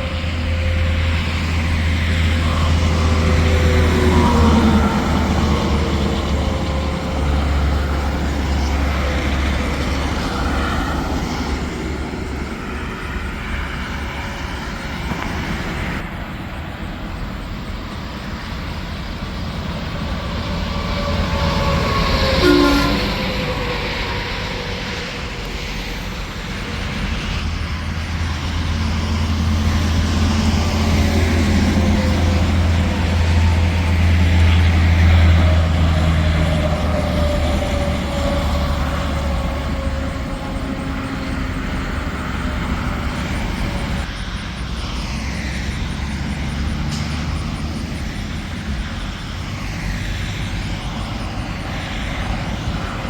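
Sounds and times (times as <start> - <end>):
highway traffic passing: 0.0 - 53.0.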